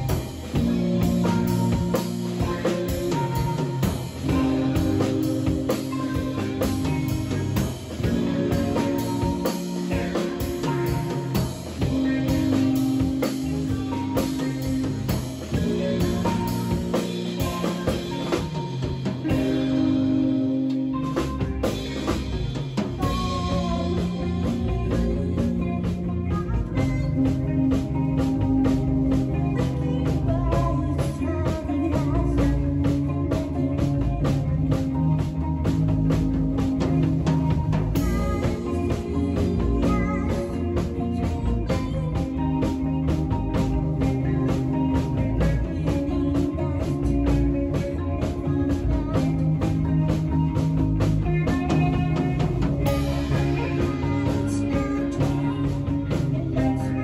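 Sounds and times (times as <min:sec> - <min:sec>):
bass guitar notes: 0:00.0 - 0:57.0
drum kit beat: 0:00.0 - 0:57.0
electric guitar: 0:00.0 - 0:57.0
live rock band playing: 0:00.0 - 0:57.0.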